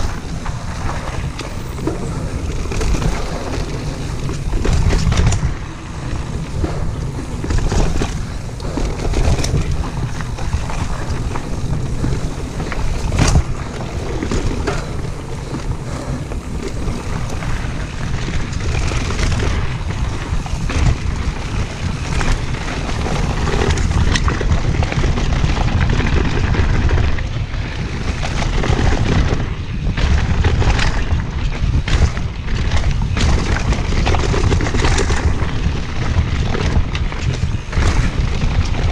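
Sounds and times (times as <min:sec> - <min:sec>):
bike knocking and clattering: 0:00.0 - 0:38.9
wind and ride vibration rumble: 0:00.0 - 0:38.9.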